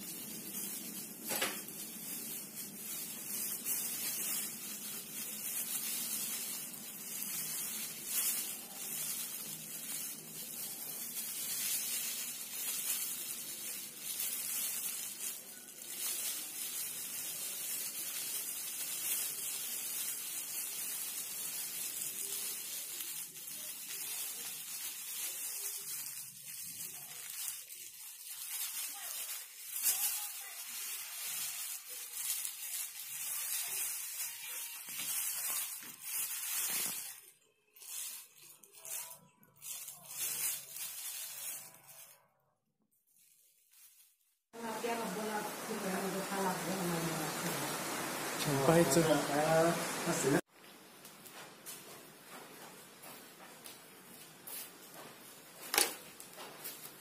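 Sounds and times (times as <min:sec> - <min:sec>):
plastic gloves rustling: 0:00.0 - 0:57.0.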